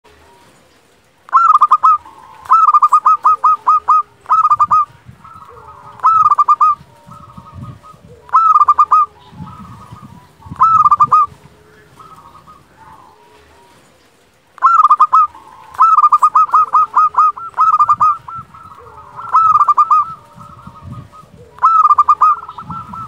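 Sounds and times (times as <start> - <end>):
dove singing flute-like notes: 0.1 - 23.0
faint bird calls: 0.1 - 23.0.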